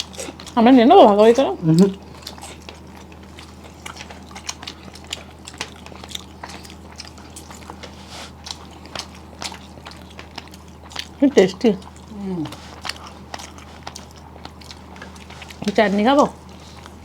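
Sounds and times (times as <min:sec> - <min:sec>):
mouth chewing food: 0:00.0 - 0:17.0
steady low hum: 0:00.0 - 0:17.0.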